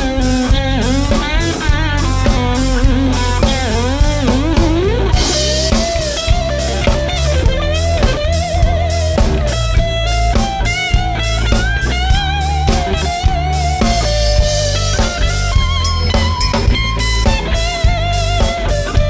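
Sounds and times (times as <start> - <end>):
bass guitar: 0.0 - 19.0
drums: 0.0 - 19.0
electric guitar solo: 0.0 - 19.0.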